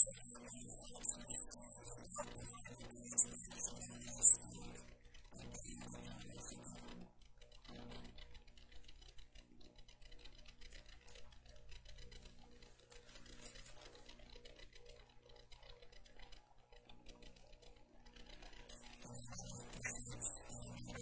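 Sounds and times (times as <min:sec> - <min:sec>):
faint ticks and clicks: 0:00.0 - 0:21.0
steady low hum: 0:00.0 - 0:21.0.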